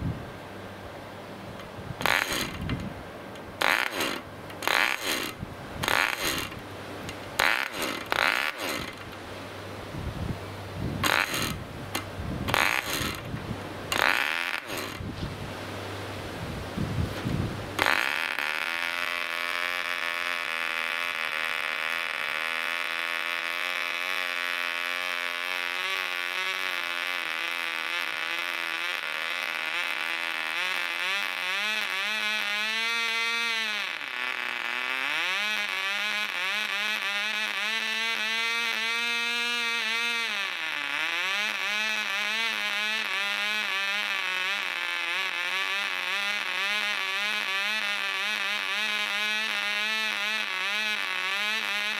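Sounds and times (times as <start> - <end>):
model glow engine buzzing: 1.4 - 15.2, 17.4 - 51.9.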